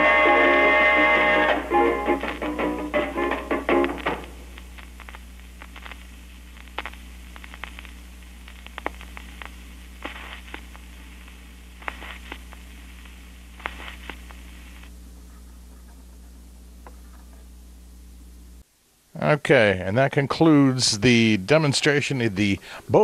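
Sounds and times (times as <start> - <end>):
record surface crackle: 0.0 - 18.9
steady low hum: 0.0 - 23.0.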